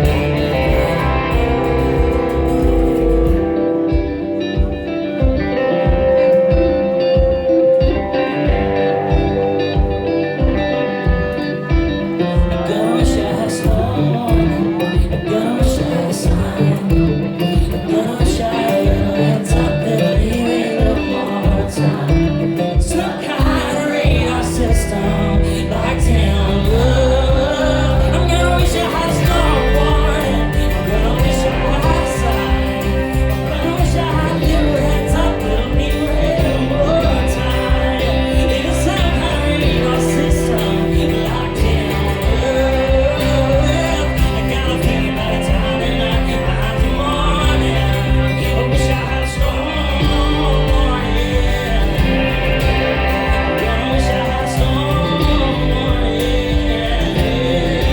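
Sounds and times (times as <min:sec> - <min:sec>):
guitar: 0:00.0 - 0:57.9
live country-pop band: 0:00.0 - 0:57.9
sustained bass: 0:00.0 - 0:57.9.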